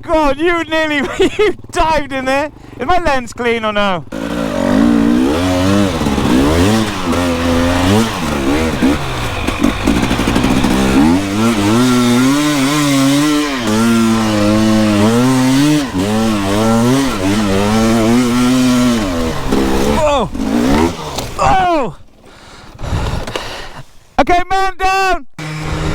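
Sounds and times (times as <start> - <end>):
dirt bike engine revving: 0.0 - 23.8, 25.4 - 25.9.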